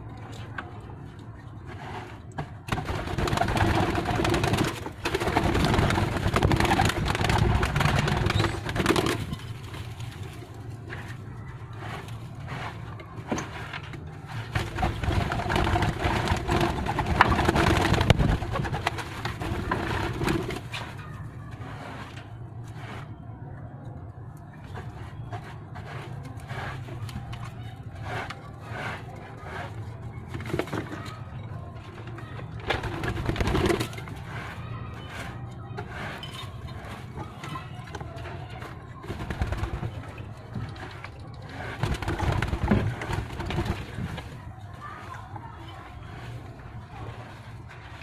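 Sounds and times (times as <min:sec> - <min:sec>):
scraping and brushing: 0:00.0 - 0:23.4, 0:24.6 - 0:48.0.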